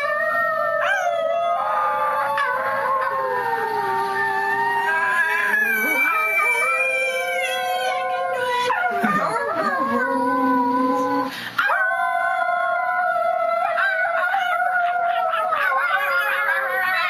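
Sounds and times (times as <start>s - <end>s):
dog howling: 0.0s - 17.0s
people howling: 0.0s - 17.0s.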